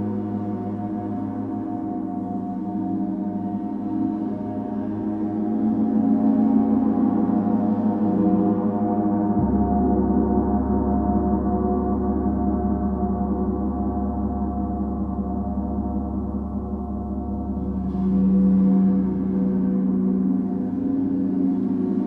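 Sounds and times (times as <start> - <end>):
deep low hum: 0.0 - 22.0.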